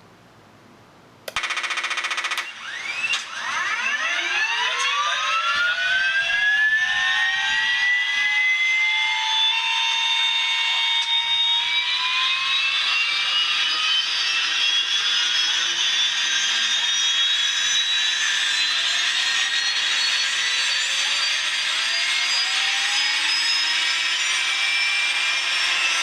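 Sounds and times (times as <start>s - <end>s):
helicopter turbine whine: 1.4s - 26.0s.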